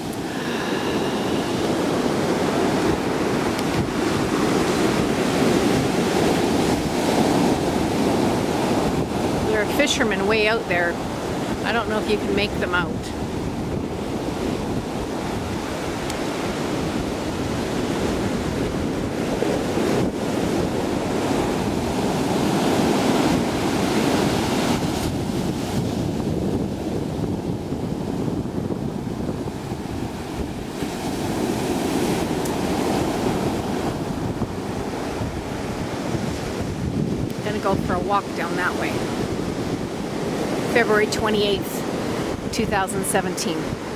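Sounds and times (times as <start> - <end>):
sea waves breaking on beach: 0.0 - 43.9
wind buffeting microphone: 0.0 - 43.9.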